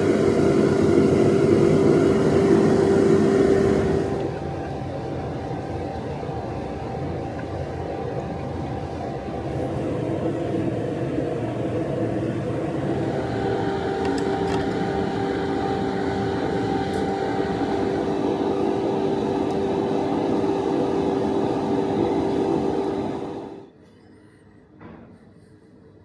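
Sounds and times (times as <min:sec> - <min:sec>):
machine motor hum: 0:00.0 - 0:23.7.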